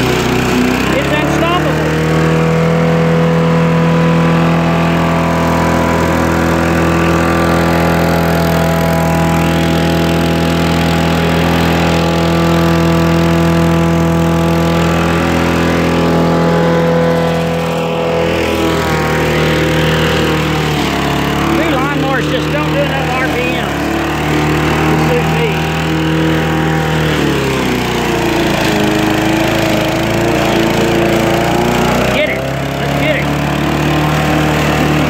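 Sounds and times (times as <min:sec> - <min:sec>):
lawnmower engine running: 0:00.0 - 0:35.0.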